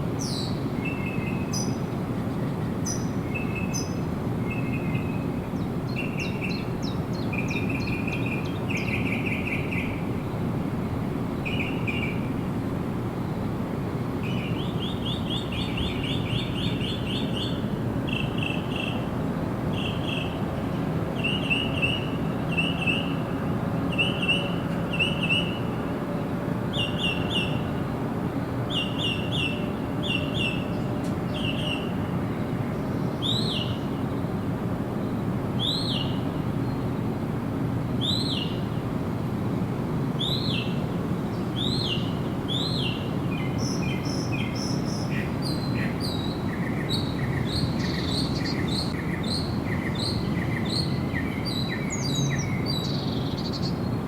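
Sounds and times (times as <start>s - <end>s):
songbirds chirping: 0.1s - 26.0s, 26.6s - 37.2s, 40.2s - 54.0s.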